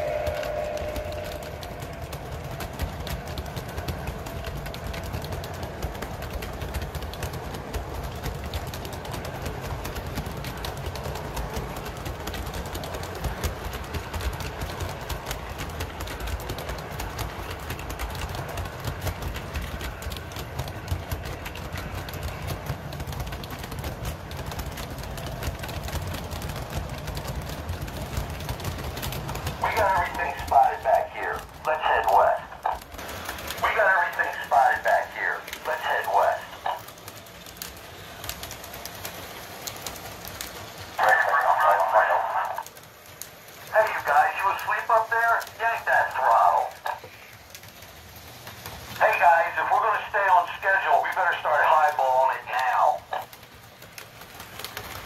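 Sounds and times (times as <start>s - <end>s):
model train wheels rumbling: 0.0s - 55.0s
rapid clicking: 0.0s - 55.0s.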